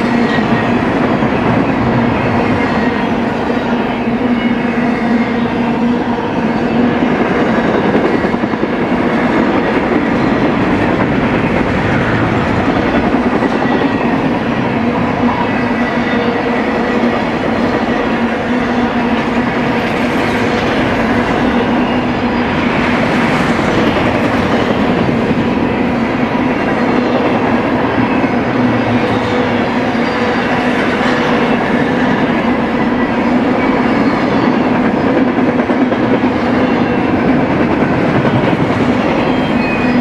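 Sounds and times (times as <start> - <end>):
humming ring from wheels and rail: 0.0 - 40.0
train wheels rumbling on rails: 0.0 - 40.0.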